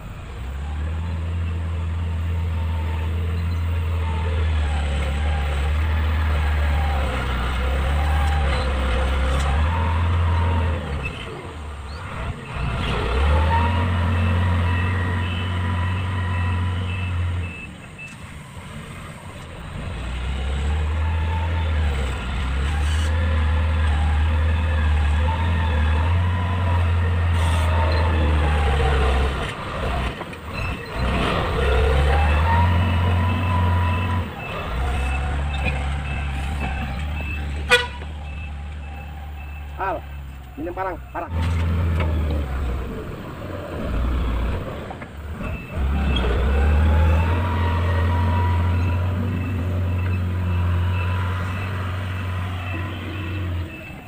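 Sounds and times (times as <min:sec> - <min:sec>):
diesel engine running hard: 0:00.0 - 0:54.0.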